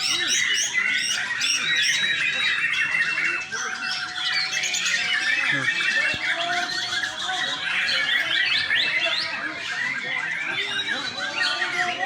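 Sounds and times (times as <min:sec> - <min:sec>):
birds whistling and trilling: 0:00.0 - 0:12.0.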